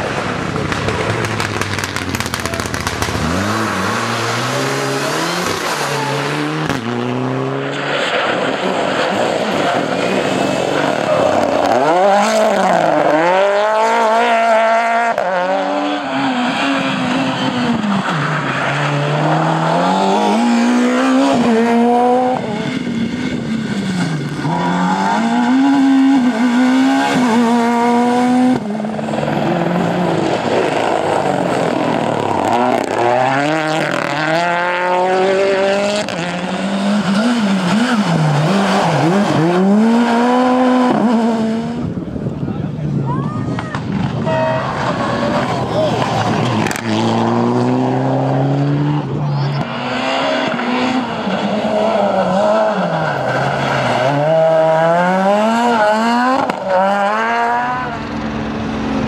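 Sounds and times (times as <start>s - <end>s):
rally cars racing past: 0.0s - 59.0s.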